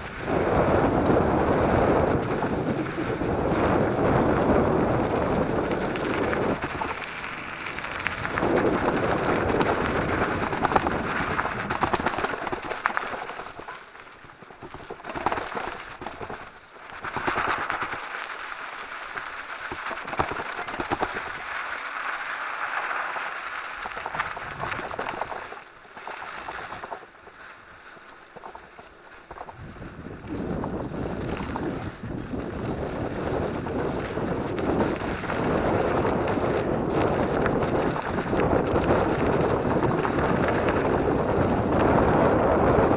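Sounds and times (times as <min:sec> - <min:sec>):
bike tyres crunching on gravel: 0:00.0 - 0:42.9
bike clicking and knocking over stones: 0:00.8 - 0:42.9.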